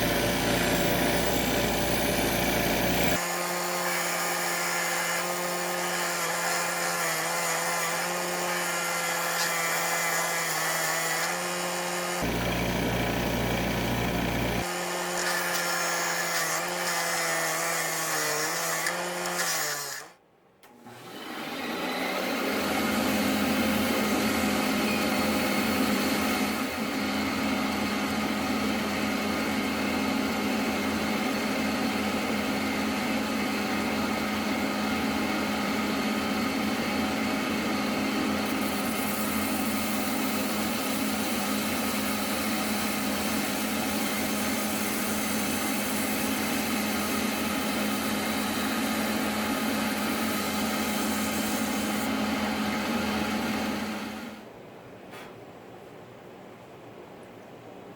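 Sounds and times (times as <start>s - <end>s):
electric grinder motor humming: 0.0s - 20.1s, 20.9s - 54.3s.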